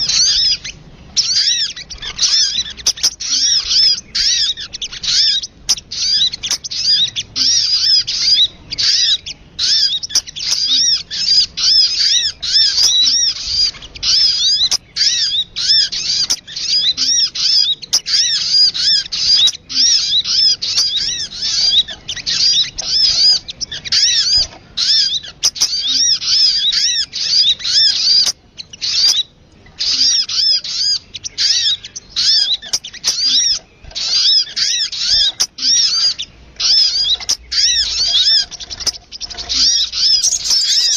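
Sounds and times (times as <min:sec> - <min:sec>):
bird chattering chirps: 0:00.0 - 0:40.9.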